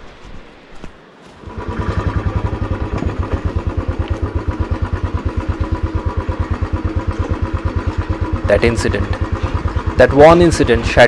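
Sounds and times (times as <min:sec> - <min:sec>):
motorcycle engine starting and idling: 0:01.3 - 0:11.0.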